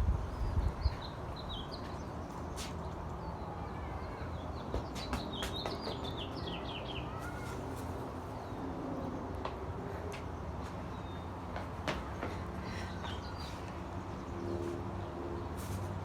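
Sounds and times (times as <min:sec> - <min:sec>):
small birds chirping: 0:00.1 - 0:09.2, 0:09.9 - 0:14.8.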